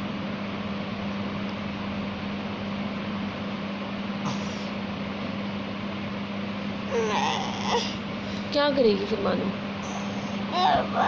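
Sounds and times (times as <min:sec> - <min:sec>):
electric fan motor whirring: 0:00.0 - 0:11.0.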